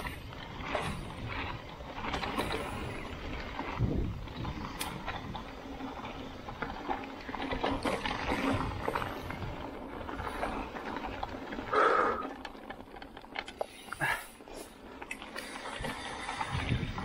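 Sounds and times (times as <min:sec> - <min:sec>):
tyre and wind rush: 0:00.0 - 0:12.3, 0:15.4 - 0:17.0
bike knocks and rattles on stones: 0:00.0 - 0:17.0.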